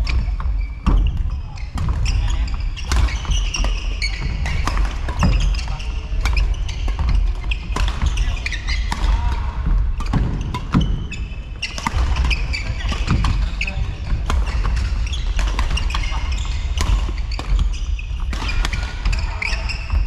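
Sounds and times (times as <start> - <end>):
shoes squeaking on court: 0.0 - 9.3, 10.0 - 20.0
rackets hitting shuttlecock: 0.8 - 20.0.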